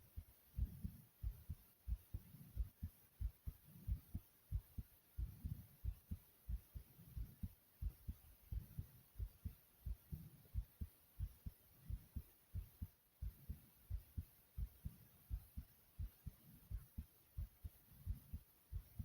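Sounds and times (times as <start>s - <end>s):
fast heartbeat thumps: 0.0s - 19.0s.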